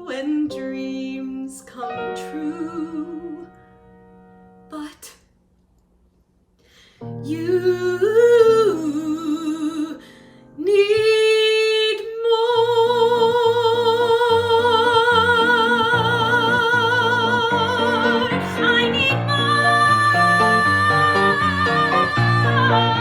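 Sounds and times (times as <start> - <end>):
woman singing with vibrato: 0.0 - 3.5, 7.3 - 10.0, 10.6 - 23.0.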